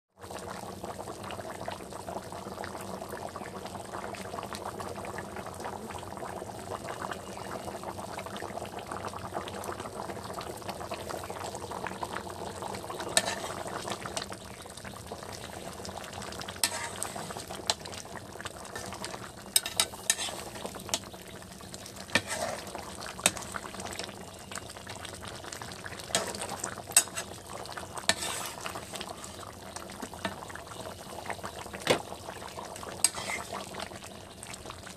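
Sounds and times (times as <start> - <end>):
curry bubbling in a metal pot: 0.2 - 34.9.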